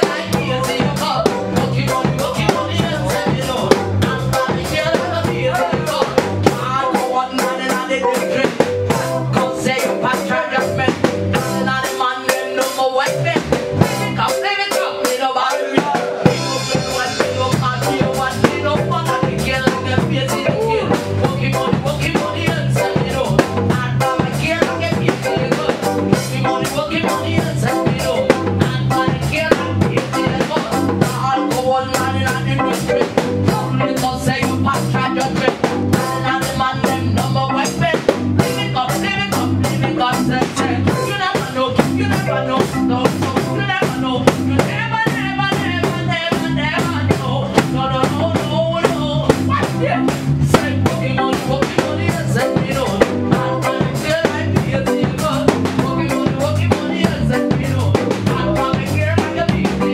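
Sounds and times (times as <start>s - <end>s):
reggae band playing: 0.0s - 59.9s.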